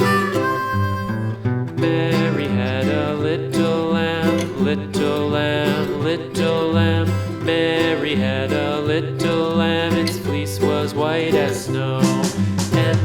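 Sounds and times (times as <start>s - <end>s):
upbeat country acoustic guitar music: 0.0s - 13.0s.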